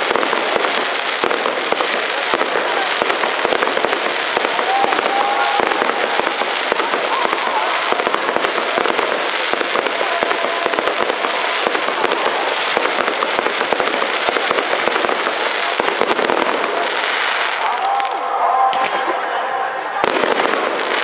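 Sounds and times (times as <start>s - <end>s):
fireworks popping and crackling: 0.0s - 19.2s, 20.0s - 21.0s.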